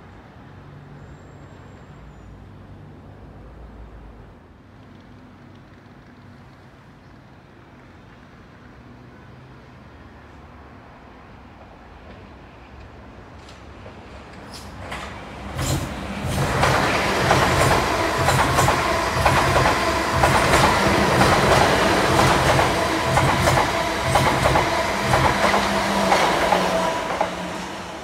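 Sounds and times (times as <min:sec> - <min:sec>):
passenger train passing: 0:03.1 - 0:28.0.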